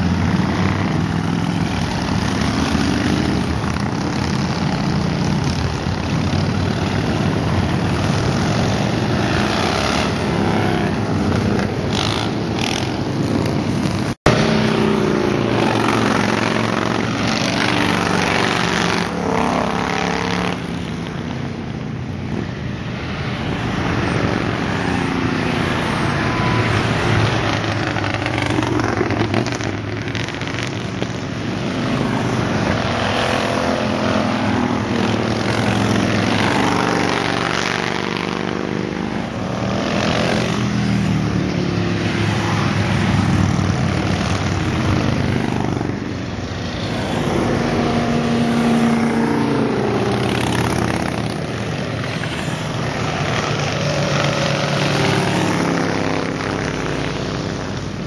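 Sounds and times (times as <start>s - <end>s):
motorcycle engines rumbling past: 0.0s - 58.0s.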